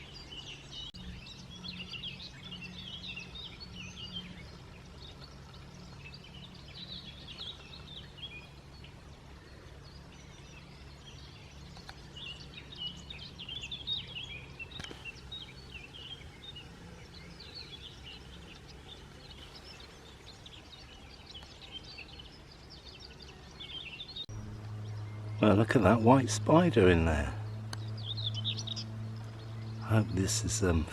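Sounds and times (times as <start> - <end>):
faint low rumble: 0.0 - 30.9
small birds chirping: 0.0 - 30.9.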